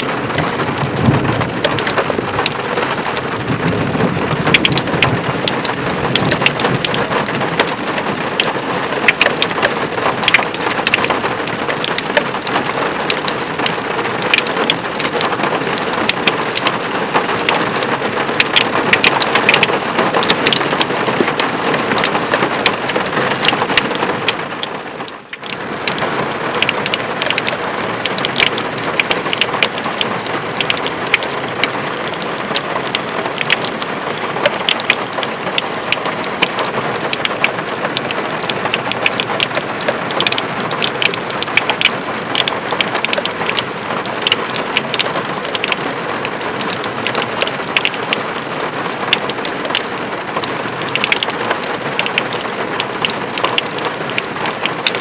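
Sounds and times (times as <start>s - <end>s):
heavy rain falling: 0.0s - 55.0s
sharp raindrop hits: 0.0s - 55.0s.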